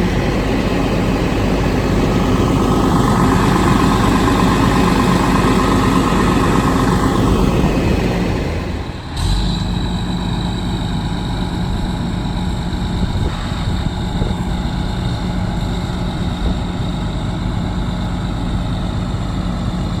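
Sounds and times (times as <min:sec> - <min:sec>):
faint high whine: 0:00.0 - 0:20.0
fire truck engine idling: 0:00.0 - 0:20.0.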